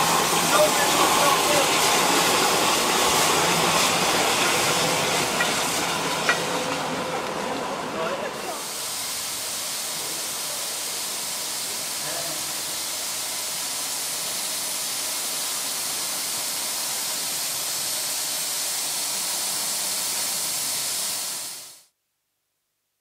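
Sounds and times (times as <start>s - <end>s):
steam hissing from locomotive: 0.0s - 21.9s.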